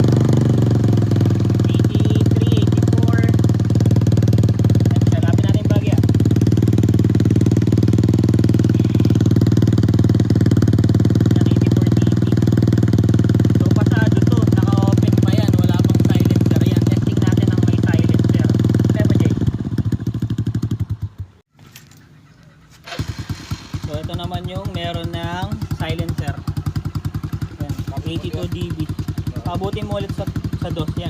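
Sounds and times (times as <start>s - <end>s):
two-stroke engine idling: 0.0s - 31.0s.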